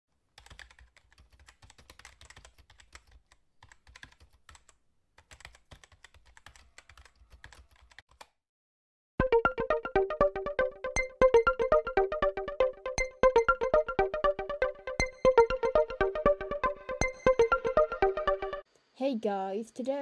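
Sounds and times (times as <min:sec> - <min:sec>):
computer keyboard typing: 0:00.3 - 0:08.4, 0:09.3 - 0:18.6.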